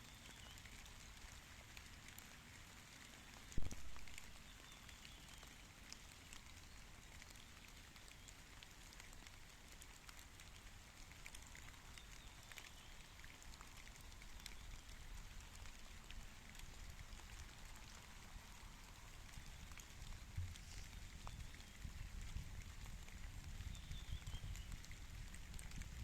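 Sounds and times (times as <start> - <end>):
rain patter: 0.0 - 26.0.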